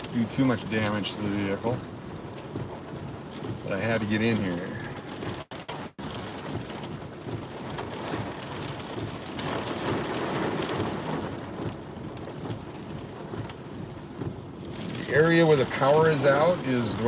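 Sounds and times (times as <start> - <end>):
heavy rain pattering: 0.0 - 17.0
low rumble of thunder: 0.0 - 17.0.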